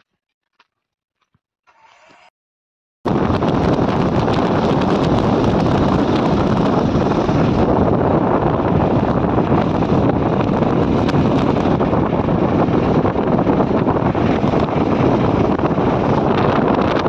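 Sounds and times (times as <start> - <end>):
road travel noise: 3.1 - 17.0
wind buffeting microphone: 3.1 - 17.0.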